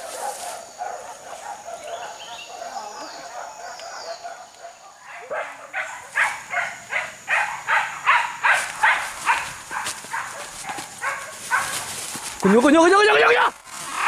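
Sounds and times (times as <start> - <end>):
dog yelping barks: 0.2 - 11.8.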